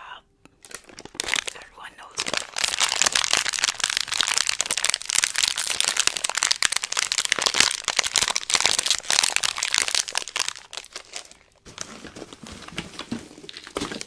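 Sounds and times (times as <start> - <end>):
plastic wrapper crinkling: 0.6 - 14.0.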